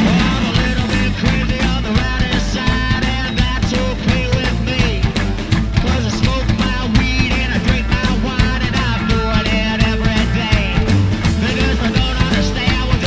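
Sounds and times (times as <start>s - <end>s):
drums: 0.0s - 13.0s
guitar: 0.0s - 13.0s
person singing: 0.0s - 13.0s.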